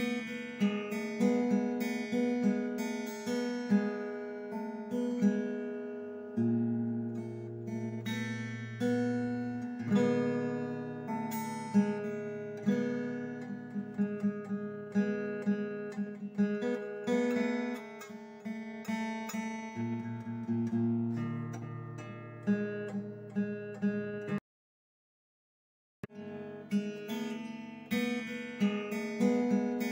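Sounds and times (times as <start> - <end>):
acoustic guitar music: 0.0 - 24.4, 26.0 - 29.9.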